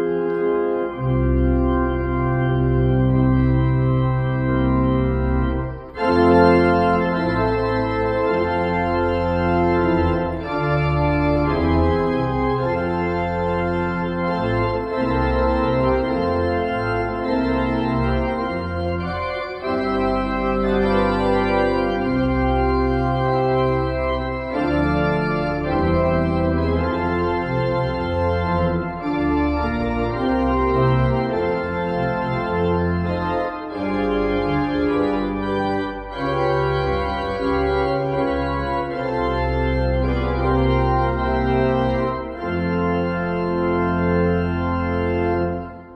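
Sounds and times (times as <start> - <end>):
organ chords with pedal bass: 0.0 - 45.9.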